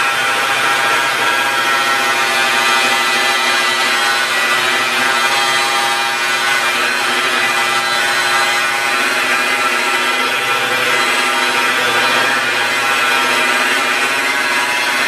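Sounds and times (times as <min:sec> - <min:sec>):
polisher motor whine: 0:00.0 - 0:15.0.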